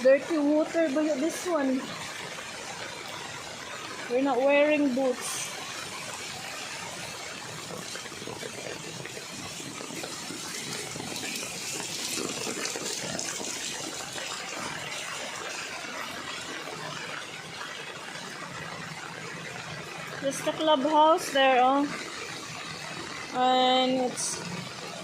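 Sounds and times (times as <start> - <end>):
floodwater rushing and splashing: 0.0 - 25.0.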